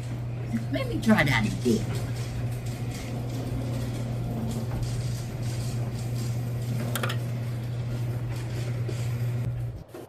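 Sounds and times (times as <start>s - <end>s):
garage door motor humming: 0.0s - 10.0s.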